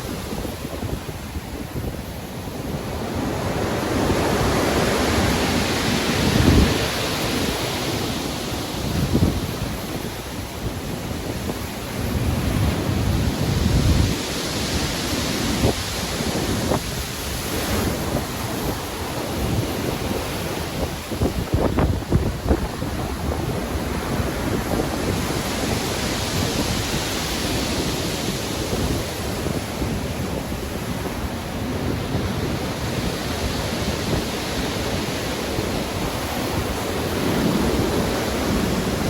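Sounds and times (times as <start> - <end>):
waves breaking: 0.0 - 39.0
wind: 0.0 - 39.0.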